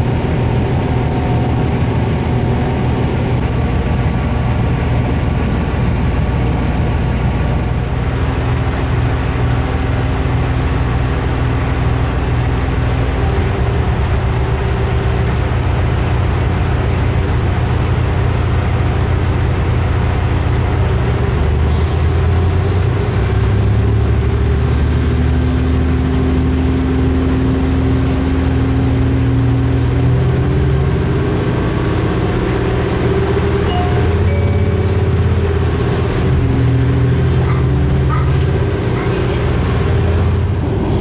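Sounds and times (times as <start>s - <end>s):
diesel railcar engine drone: 0.0s - 41.0s.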